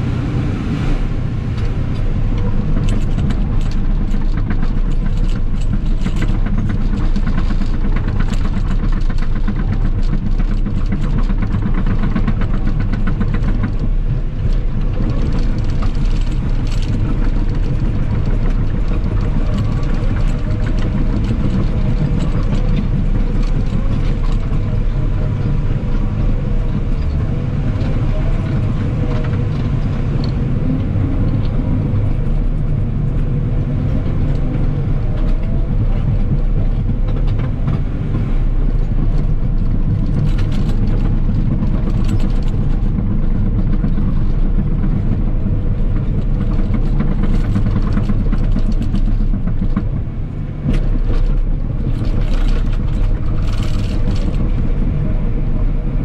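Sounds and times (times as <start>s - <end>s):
diesel engine running: 0.0s - 56.0s
metal clanks and rattles: 1.5s - 32.9s, 33.8s - 55.1s.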